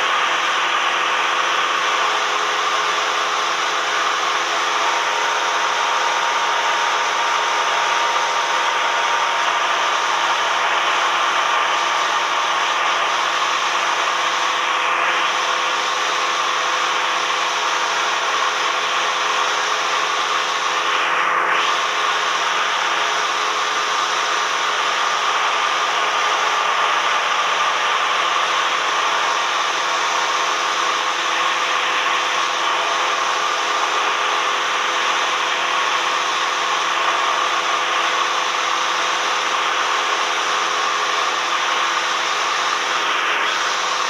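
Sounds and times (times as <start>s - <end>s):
small plane engine and propeller drone: 0.0s - 44.0s.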